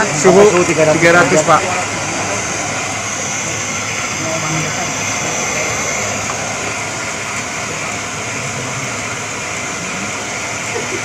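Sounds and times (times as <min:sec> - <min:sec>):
machine whirring: 0:00.0 - 0:11.0.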